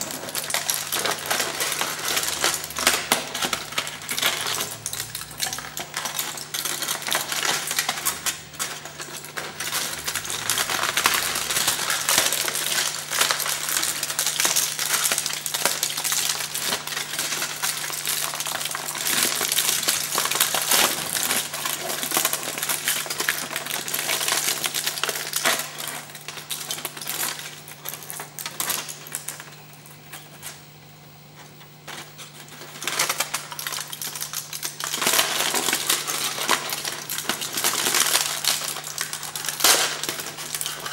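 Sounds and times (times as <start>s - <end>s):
foil crinkling: 0.0s - 40.9s.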